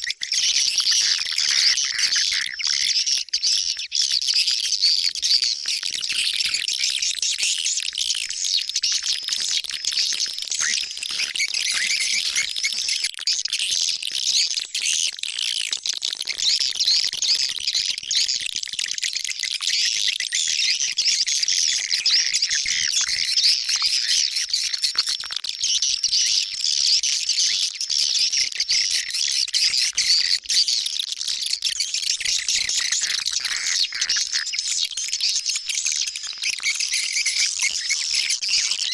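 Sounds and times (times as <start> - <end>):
recorded bird twittering: 0.0 - 15.1, 19.8 - 38.9.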